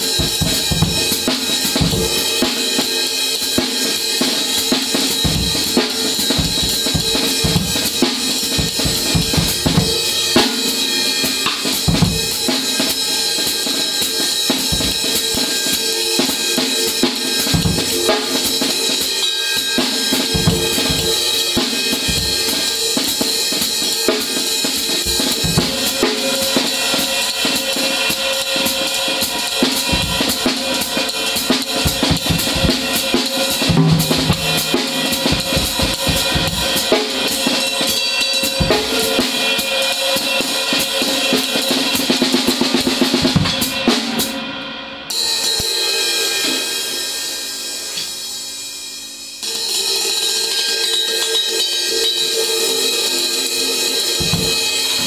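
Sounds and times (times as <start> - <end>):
drum kit played with sticks: 0.0 - 55.0
cymbal crash ringing: 4.9 - 39.7, 43.4 - 55.0.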